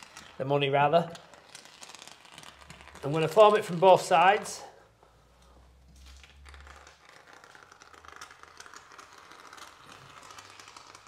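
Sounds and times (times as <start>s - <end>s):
foam gun crackling and hissing: 0.0s - 5.8s, 6.6s - 11.0s.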